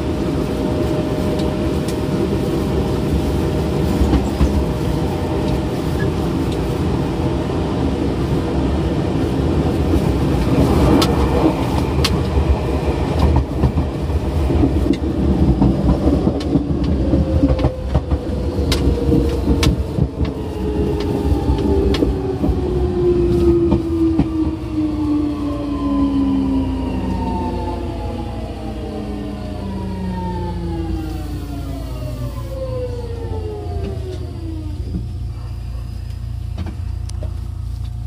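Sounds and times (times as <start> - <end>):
electric train inverter whine: 0.0 - 38.0.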